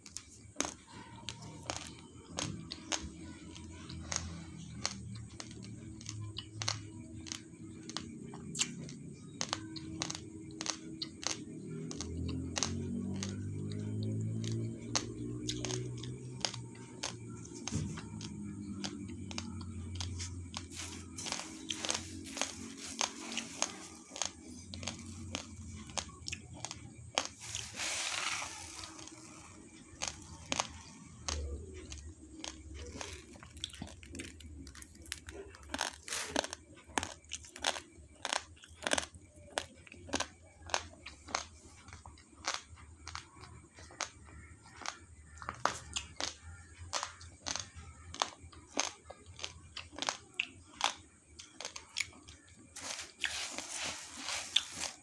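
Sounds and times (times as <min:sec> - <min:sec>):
rice grains crunched between teeth: 0:03.9 - 0:17.2, 0:18.2 - 0:41.5, 0:46.9 - 0:55.0.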